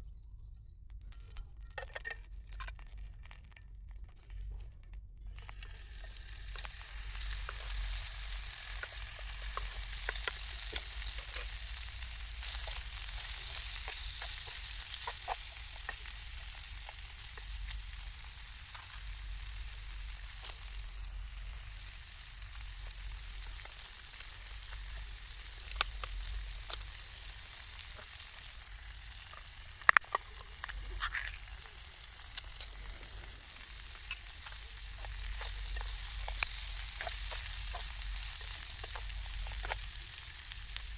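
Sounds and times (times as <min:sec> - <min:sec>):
food sizzling in a pan: 0:05.3 - 0:40.9.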